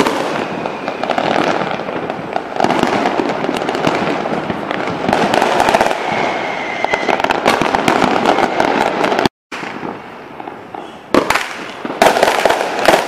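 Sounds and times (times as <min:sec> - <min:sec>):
fireworks crackling and banging: 0:00.0 - 0:13.0
sharp loud firework burst: 0:00.0 - 0:13.0.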